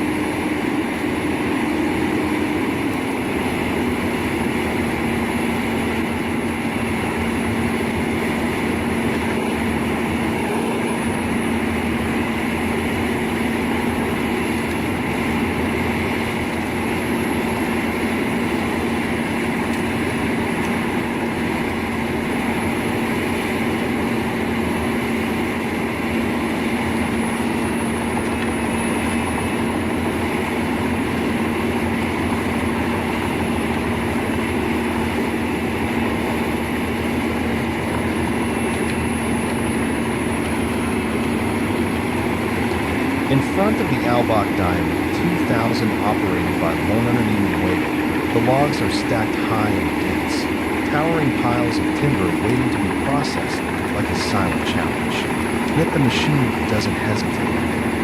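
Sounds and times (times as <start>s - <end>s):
machine engine humming with whine: 0.0s - 58.0s.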